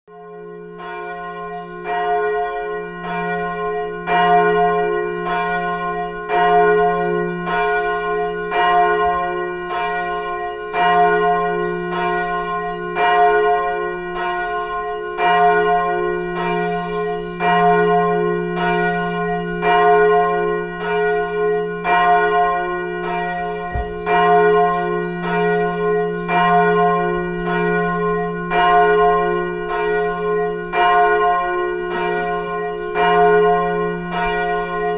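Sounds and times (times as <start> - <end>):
church bell ringing: 0.1 - 34.9.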